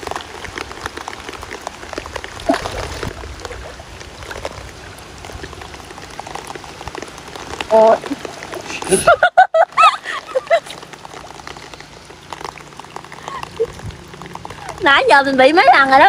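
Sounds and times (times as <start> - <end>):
heavy rain on river surface: 0.0 - 16.0
raindrops ticking: 0.0 - 16.0.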